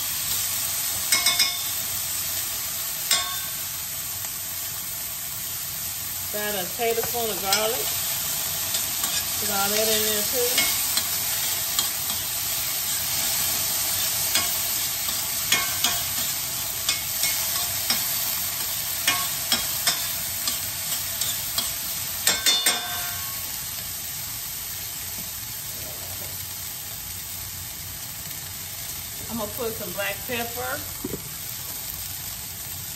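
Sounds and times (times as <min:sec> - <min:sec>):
vegetables sizzling in oil: 0:00.0 - 0:32.9.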